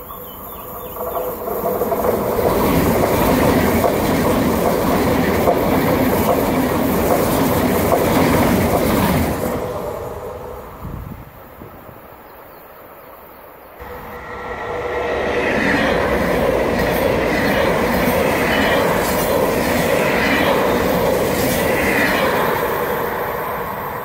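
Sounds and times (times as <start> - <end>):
train wheels rushing on track: 0.0 - 12.2, 12.9 - 24.0.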